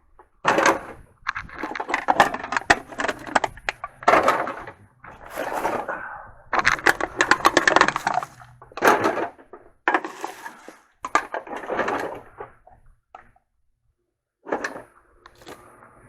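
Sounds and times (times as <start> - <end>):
small hard objects clattering: 0.4 - 13.3, 14.4 - 15.7.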